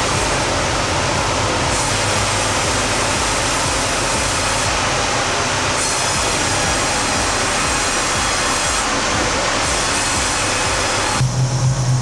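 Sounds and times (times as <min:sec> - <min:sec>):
sawmill machinery rushing noise: 0:00.0 - 0:12.0.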